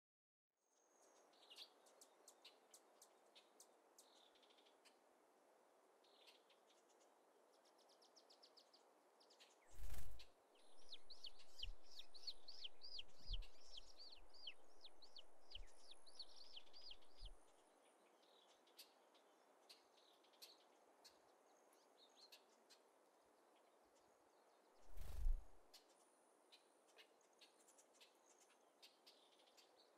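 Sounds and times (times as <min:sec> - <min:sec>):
songbird chirping: 0:00.6 - 0:29.9.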